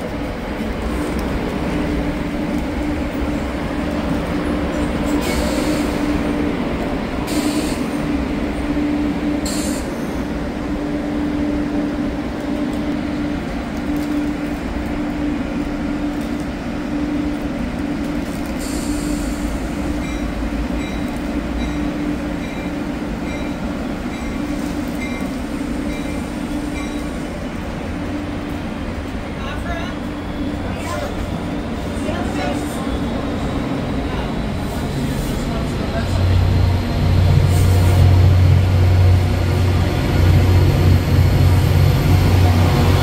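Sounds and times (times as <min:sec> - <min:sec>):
train coaches rumbling on rails: 0:00.0 - 0:43.0.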